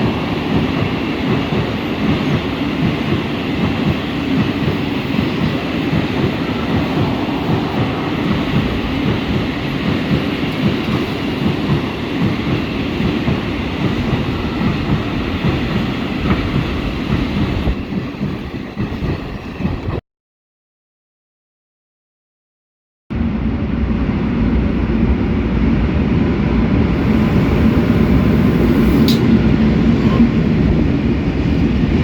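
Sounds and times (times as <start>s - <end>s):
train rumbling on rails: 0.0s - 20.0s, 23.1s - 32.0s.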